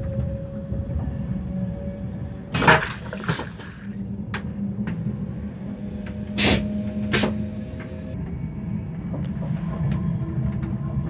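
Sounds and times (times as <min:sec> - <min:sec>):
train humming: 0:00.0 - 0:11.0.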